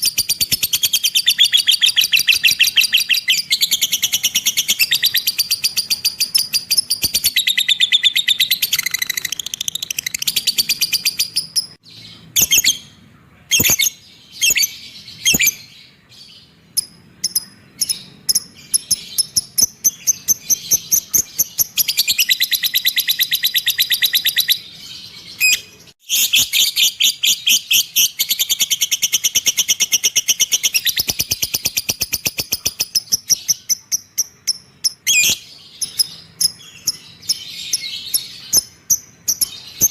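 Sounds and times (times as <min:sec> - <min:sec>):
sharp bird chirps: 0:00.0 - 0:39.9.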